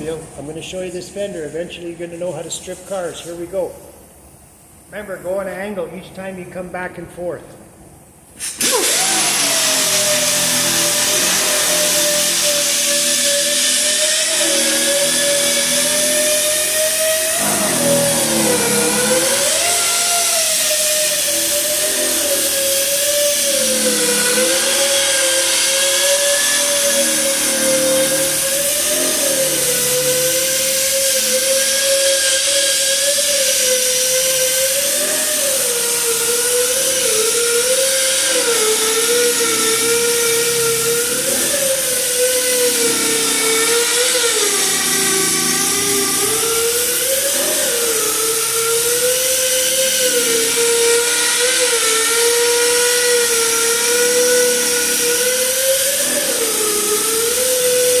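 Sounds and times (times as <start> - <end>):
power tool stripping paint from metal: 8.4 - 58.0.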